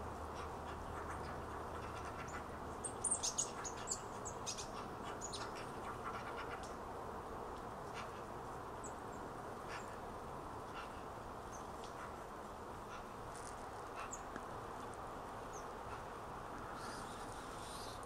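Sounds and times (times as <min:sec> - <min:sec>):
outdoor ambience hum: 0:00.0 - 0:18.0
small birds calling: 0:00.2 - 0:06.8, 0:07.9 - 0:18.0.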